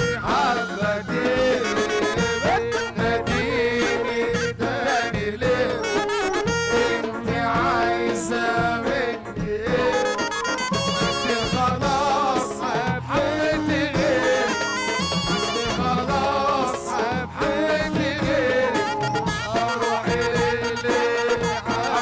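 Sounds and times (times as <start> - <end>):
bass: 0.0 - 22.0
drums: 0.0 - 22.0
keyboard: 0.0 - 22.0.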